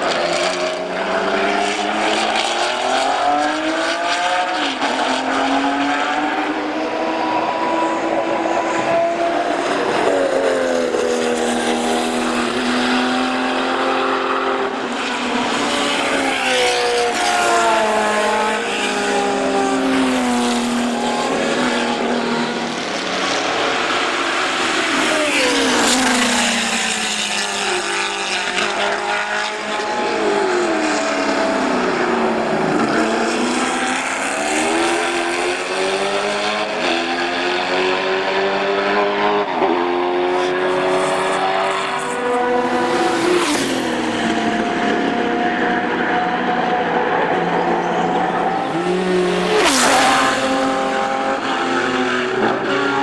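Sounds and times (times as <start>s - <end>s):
racing cars passing at speed: 0.0s - 53.0s.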